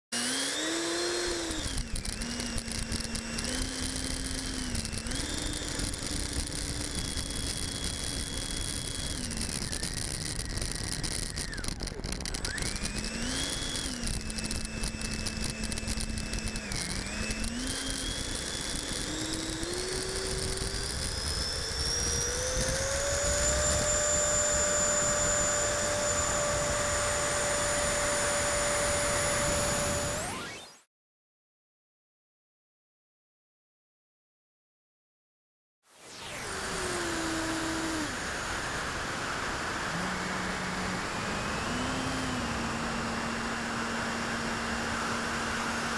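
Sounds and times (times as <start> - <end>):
electric ducted fan whining: 0.2 - 30.4, 36.1 - 45.9.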